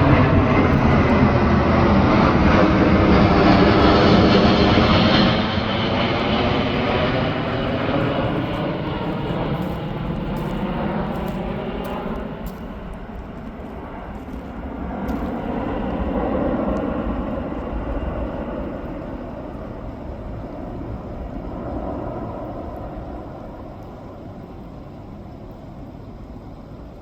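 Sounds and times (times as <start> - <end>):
low-flying aircraft engine rumble: 0.0 - 27.0.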